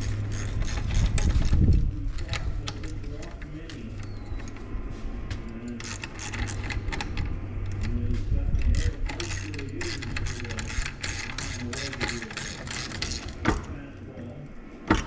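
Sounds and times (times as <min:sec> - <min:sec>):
metal parts clicking and rattling: 0:00.0 - 0:13.8
steady low hum: 0:00.0 - 0:15.0.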